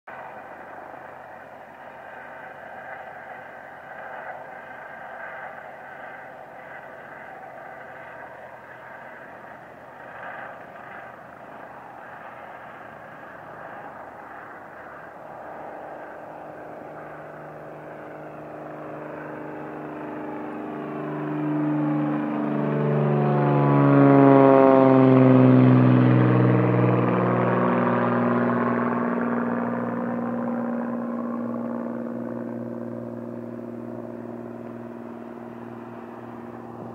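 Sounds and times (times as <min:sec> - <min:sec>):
airplane engine passing overhead: 0:00.1 - 0:36.9.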